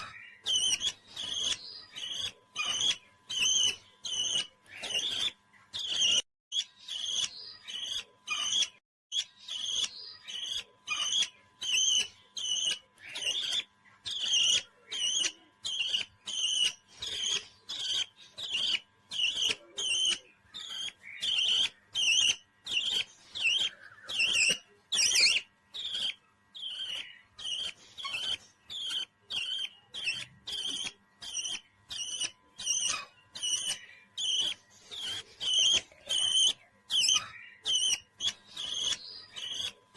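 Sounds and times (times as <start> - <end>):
parrot chirping call: 0.0 - 39.9.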